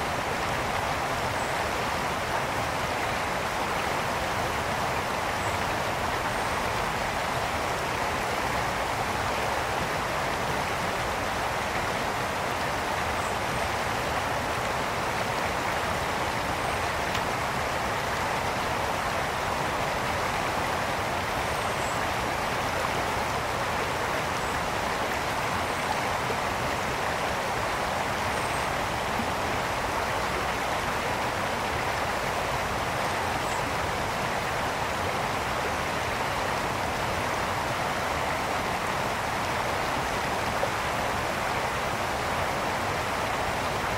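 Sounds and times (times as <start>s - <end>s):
brook water flowing: 0.0s - 43.9s.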